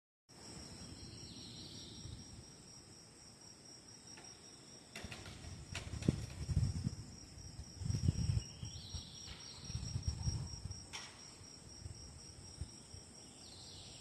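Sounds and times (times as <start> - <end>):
crickets chirring: 0.3 - 14.0.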